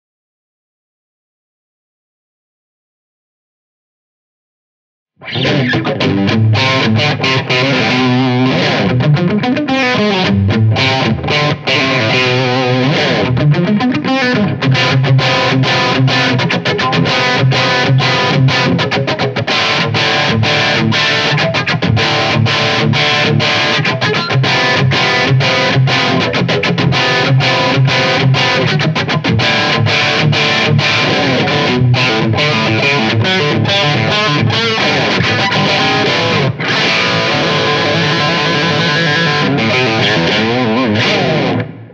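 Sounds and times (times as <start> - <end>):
distorted electric guitar riff: 5.2 - 41.9.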